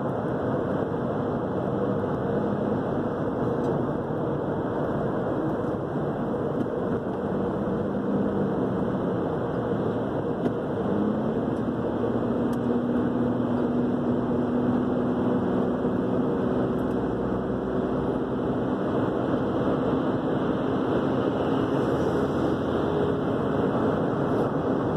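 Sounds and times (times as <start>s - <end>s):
car engine hum: 0.0s - 24.9s.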